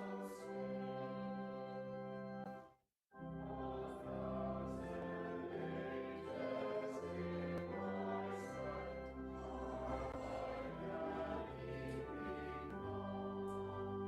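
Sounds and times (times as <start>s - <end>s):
slow sustained organ chords: 0.0s - 2.5s, 3.2s - 14.0s.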